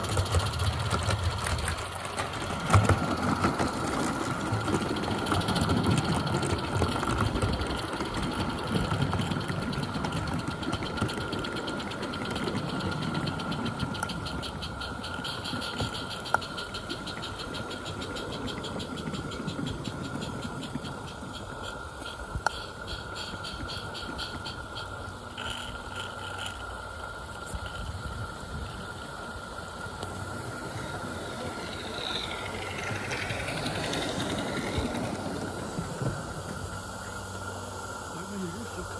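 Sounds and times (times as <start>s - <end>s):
steam hissing: 0.0s - 38.9s
steam locomotive exhaust beat: 0.0s - 38.9s.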